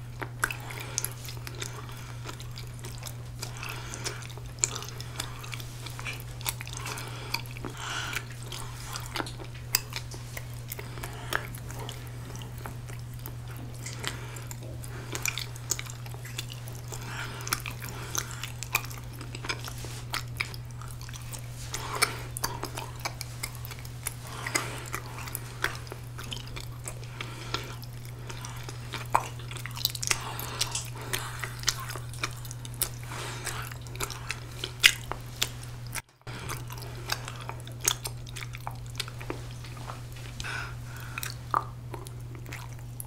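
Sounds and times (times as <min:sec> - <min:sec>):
chewing with wet mouth sounds: 0:00.0 - 0:43.0.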